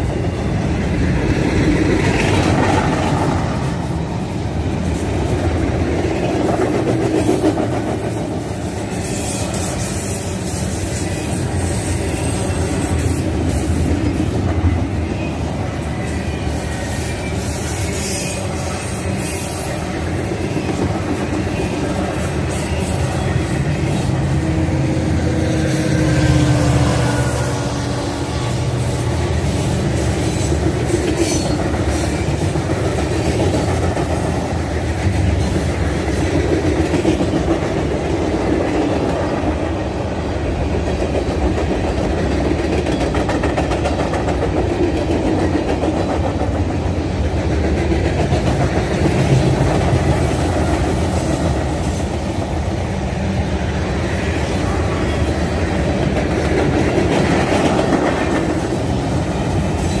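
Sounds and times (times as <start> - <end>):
steel wheels on rail: 0.0 - 60.0.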